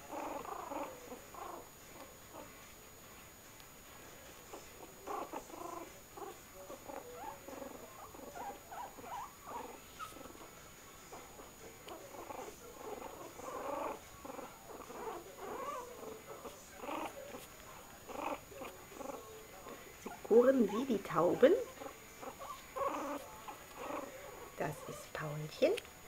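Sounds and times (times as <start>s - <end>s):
puppies cooing and grunting: 0.0s - 26.0s.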